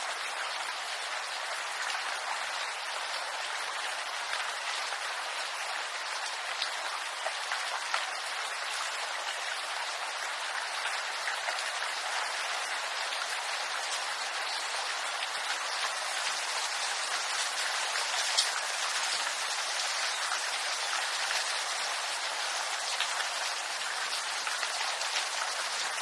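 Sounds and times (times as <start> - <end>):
rain patter on leaves: 0.0 - 26.0.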